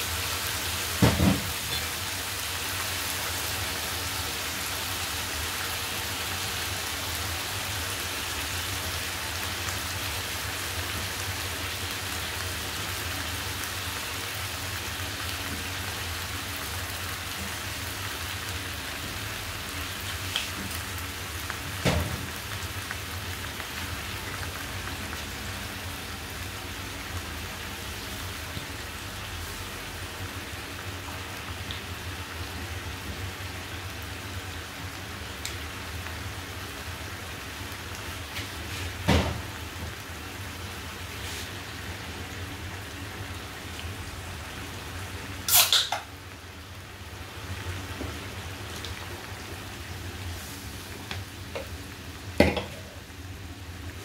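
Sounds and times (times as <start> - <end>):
chicken and onions sizzling in wok: 0.0 - 54.0.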